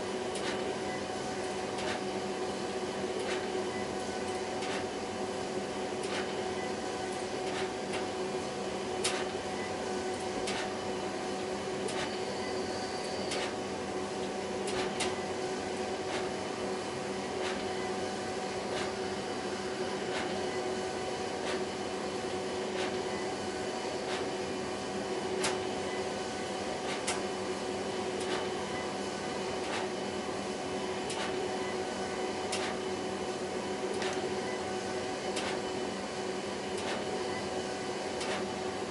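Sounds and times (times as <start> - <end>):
printer mechanical whir: 0.0 - 38.9.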